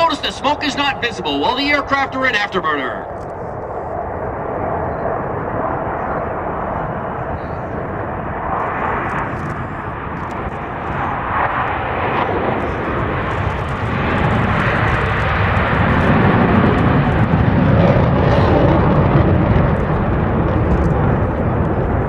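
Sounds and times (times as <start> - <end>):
jets taking off in afterburner: 0.0 - 22.0.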